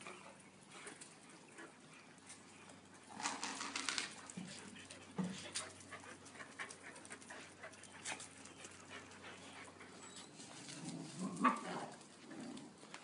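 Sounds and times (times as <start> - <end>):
dogs breathing and scuffling: 0.0 - 13.0.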